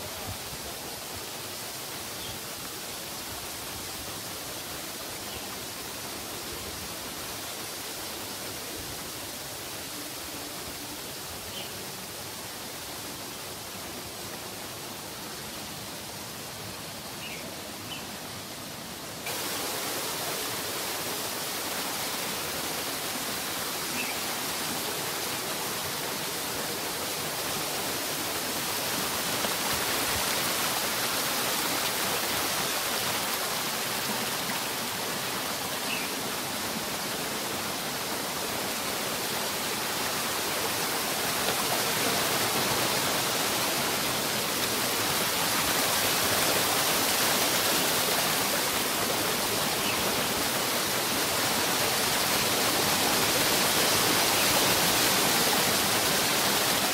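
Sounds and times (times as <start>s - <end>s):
stream rushing: 0.0s - 56.9s.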